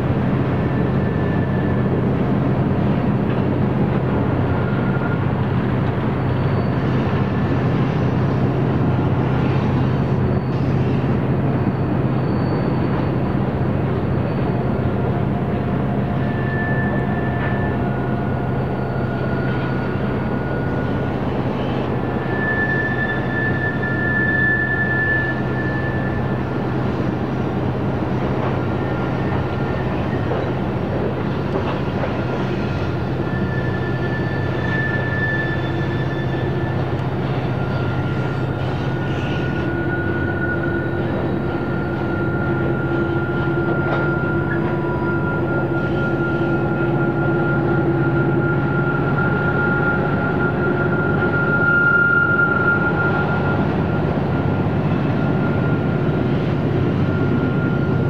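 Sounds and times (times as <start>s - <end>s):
freight train rumbling: 0.0s - 58.0s
high-pitched wheel squeal: 4.5s - 15.2s, 16.1s - 58.0s.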